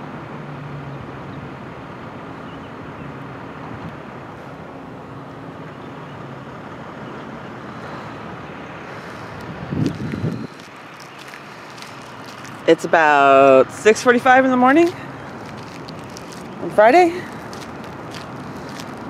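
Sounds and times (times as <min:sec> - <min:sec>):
low engine-like hum: 0:00.0 - 0:19.0
outdoor background noise: 0:00.0 - 0:19.0.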